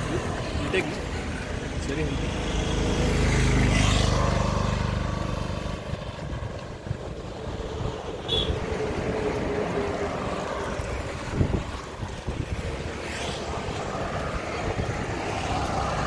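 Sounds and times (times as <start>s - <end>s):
engine humming: 0.0s - 16.0s
vehicle passing: 0.0s - 16.0s.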